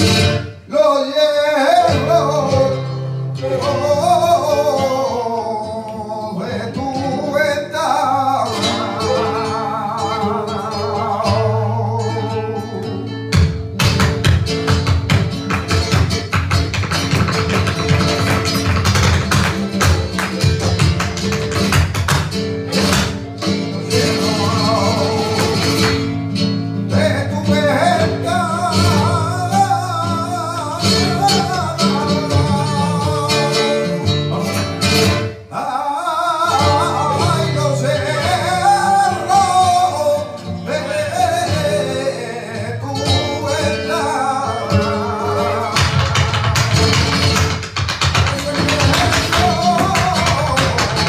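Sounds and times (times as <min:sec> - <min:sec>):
acoustic guitars: 0:00.0 - 0:51.0.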